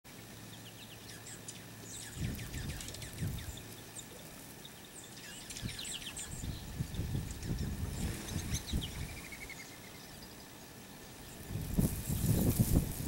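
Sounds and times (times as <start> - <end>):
songbirds twittering: 0.1 - 13.0.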